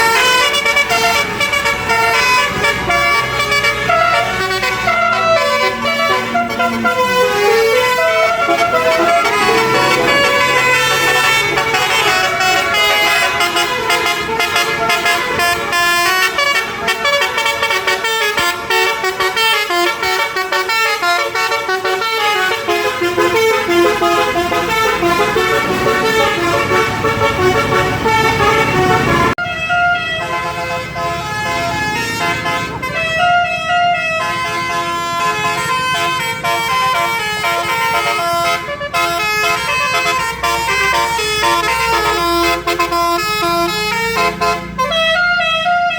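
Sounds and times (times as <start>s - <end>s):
musical bus horns: 0.0s - 45.9s.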